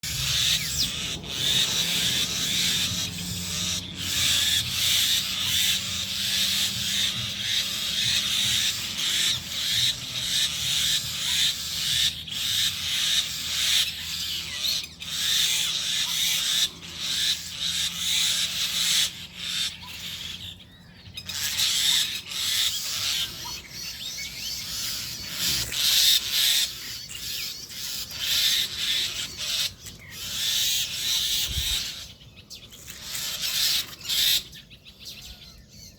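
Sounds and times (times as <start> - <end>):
birds calling harshly: 0.0 - 35.9.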